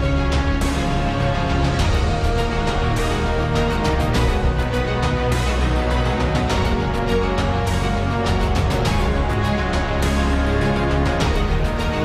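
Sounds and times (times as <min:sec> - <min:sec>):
heavy low bass: 0:00.0 - 0:12.0.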